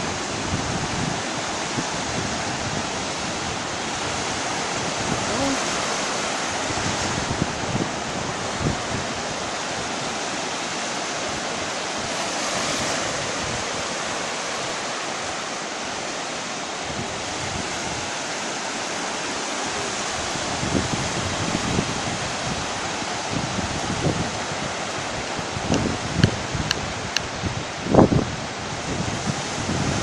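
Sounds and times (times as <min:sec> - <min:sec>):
wind buffeting microphone: 0:00.0 - 0:15.5, 0:16.7 - 0:19.1, 0:19.7 - 0:30.0
waves breaking on shore: 0:00.0 - 0:30.0.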